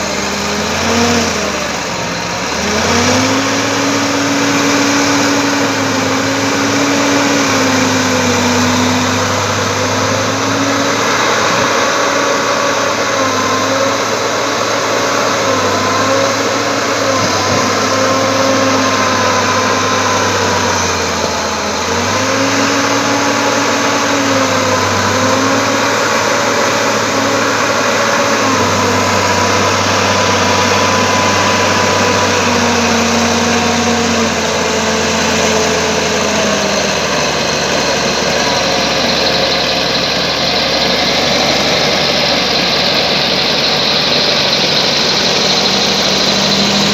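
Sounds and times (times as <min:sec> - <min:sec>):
bulldozer diesel engine working: 0:00.0 - 0:46.9.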